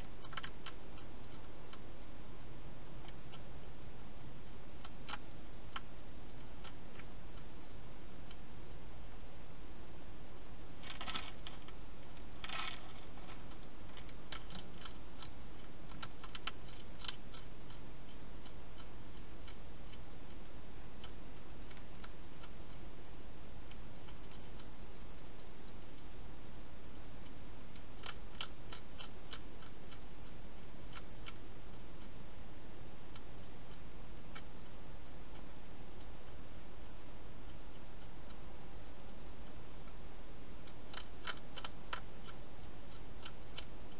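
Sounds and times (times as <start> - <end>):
hedgehog crunching dry food: 0.0 - 1.9, 4.4 - 10.0, 10.8 - 26.2, 27.0 - 36.4, 37.3 - 43.9
steady hiss: 0.0 - 43.9.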